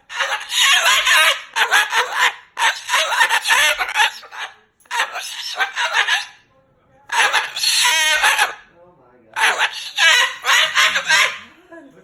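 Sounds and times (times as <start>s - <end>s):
cockatoo raspy chatter: 0.0s - 6.4s, 7.1s - 8.7s, 9.3s - 11.6s.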